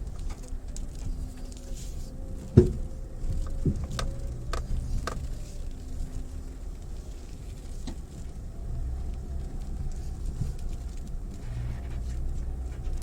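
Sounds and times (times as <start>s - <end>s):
car engine and road rumble: 0.0s - 13.0s
gravel crackle: 0.0s - 13.0s.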